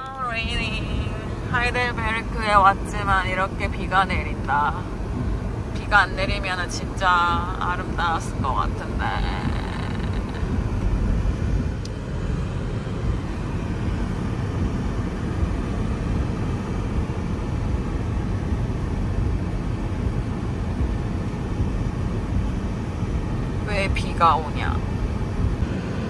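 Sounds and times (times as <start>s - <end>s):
wind buffeting microphone: 0.0s - 25.7s.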